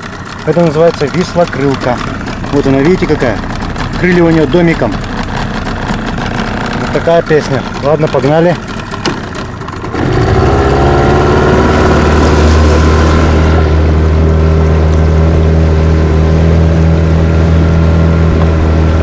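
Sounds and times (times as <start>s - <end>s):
outboard motor revving: 0.0s - 19.0s.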